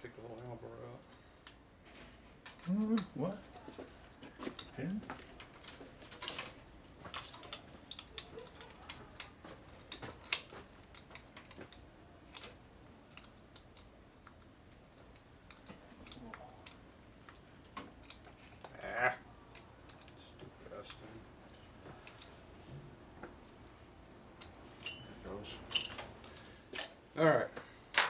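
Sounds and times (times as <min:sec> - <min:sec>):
light clicks and taps of tools: 0:00.2 - 0:01.6, 0:02.4 - 0:18.7, 0:19.5 - 0:23.8, 0:24.4 - 0:27.0.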